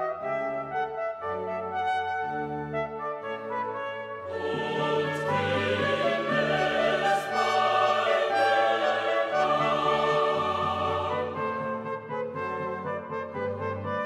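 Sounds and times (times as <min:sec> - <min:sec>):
orchestral music with choir: 0:00.0 - 0:14.0.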